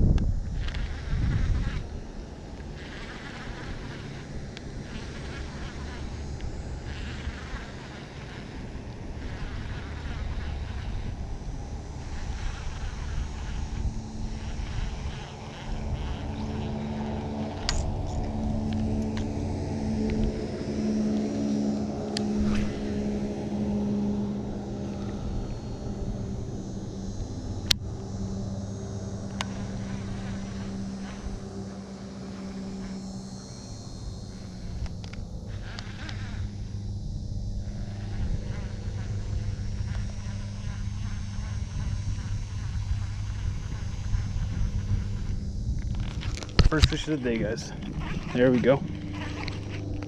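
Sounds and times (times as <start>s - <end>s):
motor droning: 0.0s - 50.0s.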